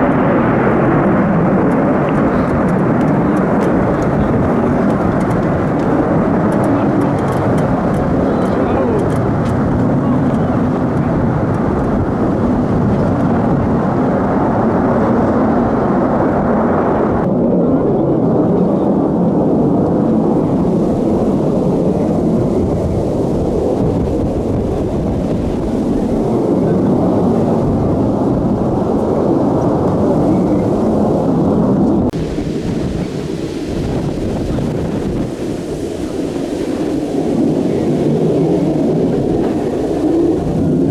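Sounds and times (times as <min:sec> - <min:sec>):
loud steady jet noise: 0:00.0 - 0:40.9.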